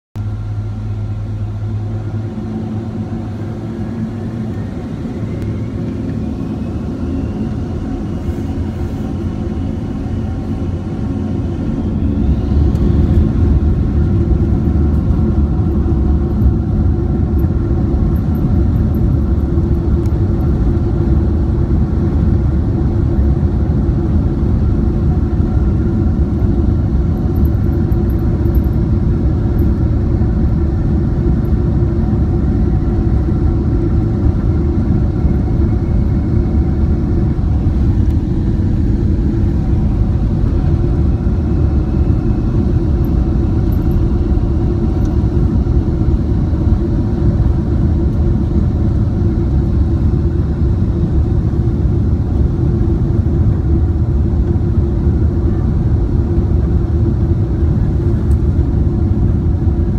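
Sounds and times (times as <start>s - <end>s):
aircraft takeoff roll rumble: 0.2s - 59.9s
jet engines spooling up: 0.5s - 59.9s.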